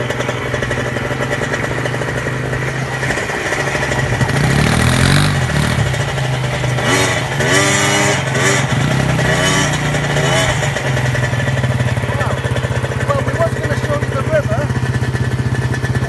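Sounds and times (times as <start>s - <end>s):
quad bike engine revving: 0.0s - 16.0s.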